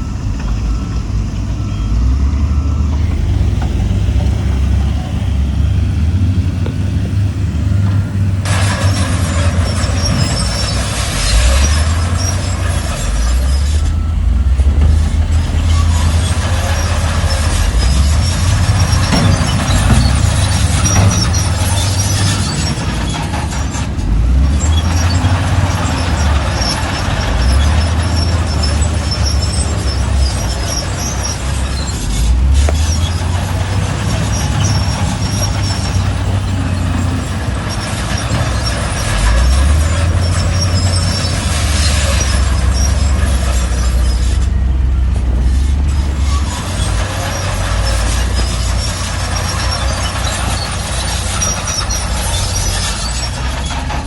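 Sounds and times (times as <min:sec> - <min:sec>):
diesel earthmoving machinery engine: 0:00.0 - 0:54.0
high metallic squeaks and clatter: 0:03.0 - 0:54.0.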